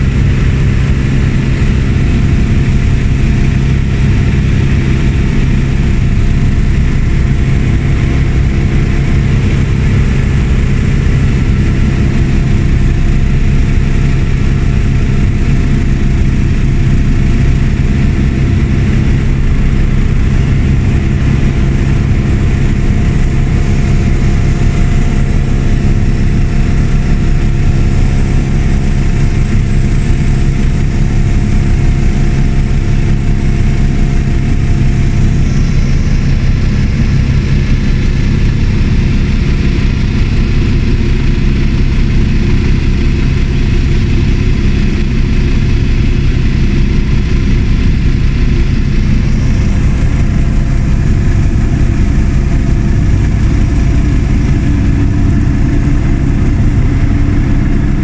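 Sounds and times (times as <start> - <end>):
helicopter engine and rotor: 0.0 - 58.0
high-pitched whine: 0.0 - 58.0.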